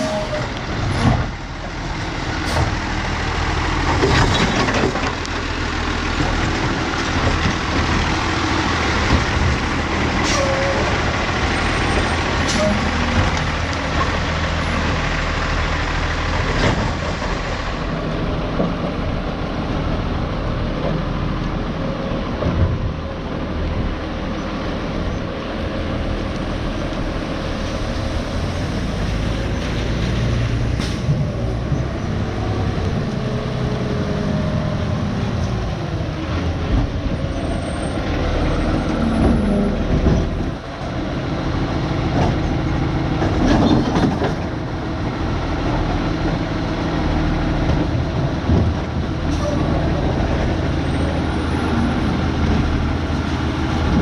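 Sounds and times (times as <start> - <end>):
garbage truck engine droning: 0.0 - 54.0.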